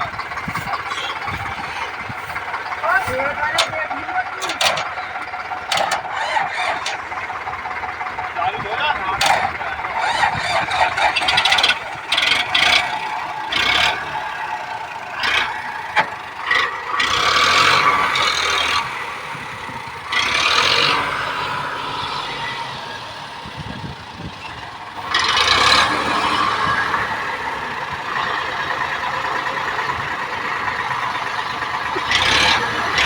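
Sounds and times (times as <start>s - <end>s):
tractor diesel engine revving: 0.0s - 33.0s.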